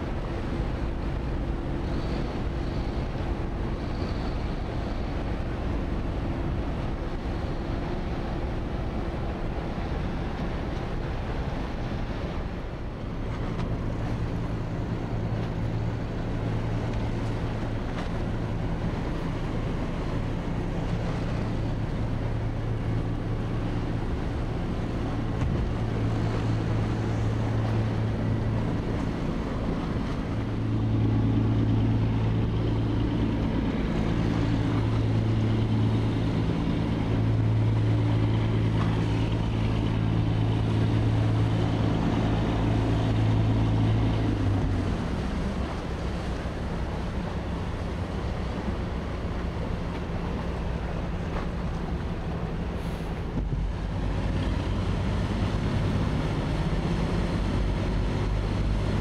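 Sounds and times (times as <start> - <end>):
boat diesel engines droning: 0.0 - 59.0
deep engine hum: 0.0 - 59.0
wind rumbling on microphone: 0.0 - 59.0.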